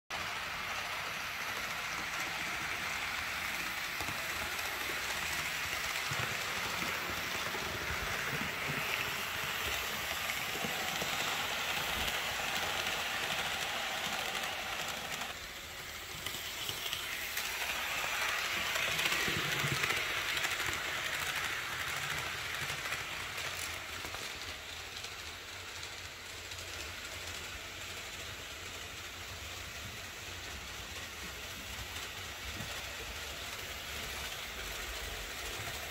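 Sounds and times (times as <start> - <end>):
model train rolling on track: 0.1 - 35.9.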